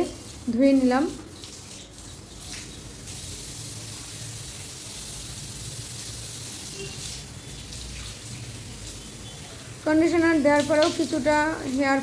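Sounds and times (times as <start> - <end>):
tap water running over hair: 0.0 - 12.0.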